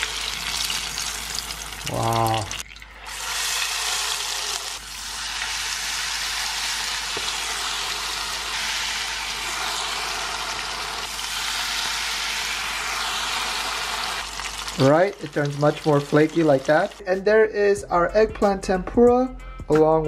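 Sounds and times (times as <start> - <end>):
food sizzling in hot oil: 0.0 - 17.2.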